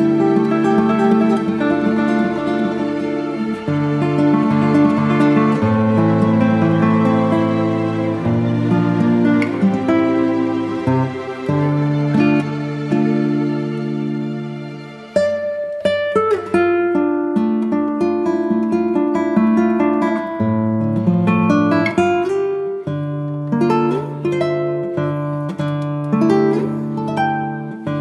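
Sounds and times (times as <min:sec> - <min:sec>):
acoustic guitar plucked and strummed: 0:00.0 - 0:28.0.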